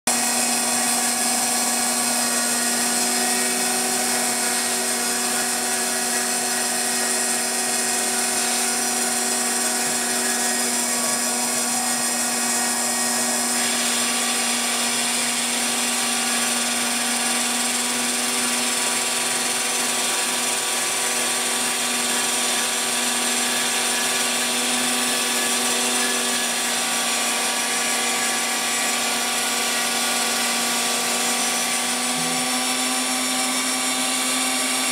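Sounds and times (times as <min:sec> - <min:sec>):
cnc mill motor whine: 0:00.1 - 0:34.9.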